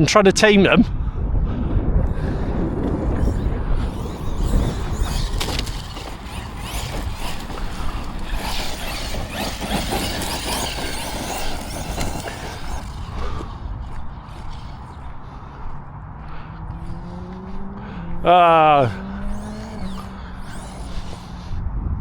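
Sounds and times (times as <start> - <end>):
tyres churning loose dirt: 2.0 - 21.5
rc truck electric motor whining: 2.0 - 21.6.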